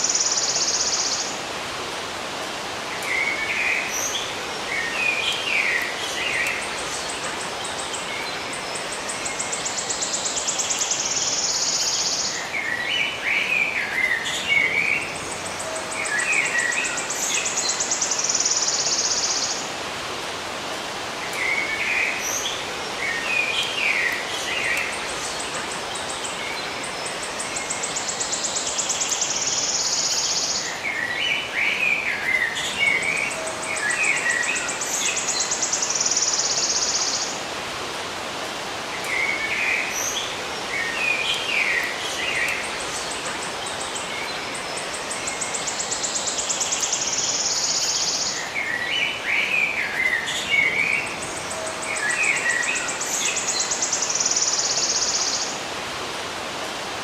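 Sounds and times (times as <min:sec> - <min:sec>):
outdoor ambience hiss: 0:00.0 - 0:57.0
songbirds chirping: 0:00.0 - 0:57.0.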